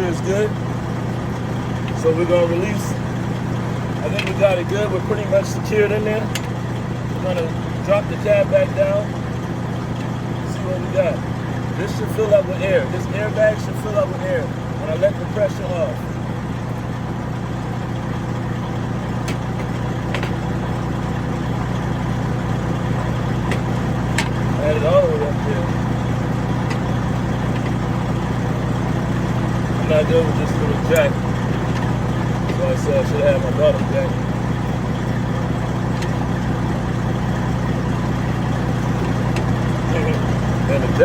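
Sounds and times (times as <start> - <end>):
diesel truck engine idling: 0.0 - 41.0.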